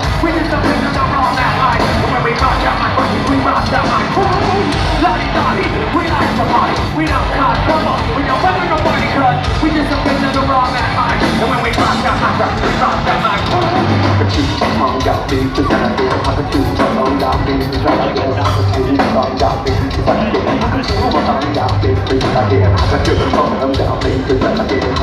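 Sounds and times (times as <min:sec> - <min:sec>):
live metal band: 0:00.0 - 0:25.0.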